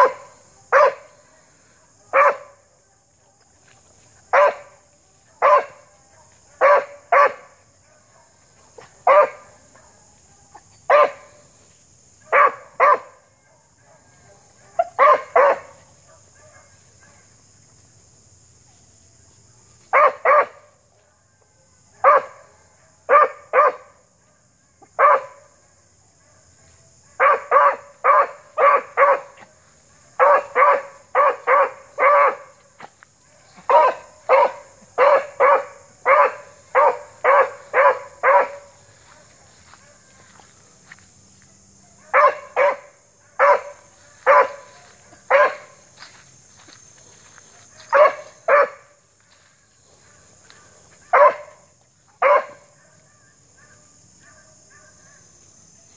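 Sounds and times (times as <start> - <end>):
hound barking: 0.0 - 11.5, 12.2 - 17.4, 19.9 - 20.8, 21.9 - 24.1, 24.8 - 49.0, 49.9 - 55.3.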